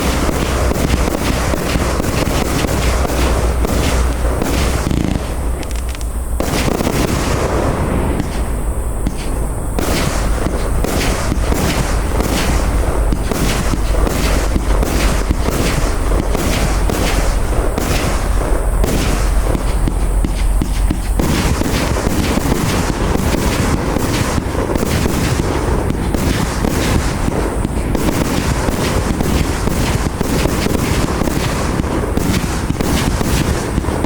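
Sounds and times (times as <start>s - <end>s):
fireworks bangs and crackle: 0.0s - 34.0s.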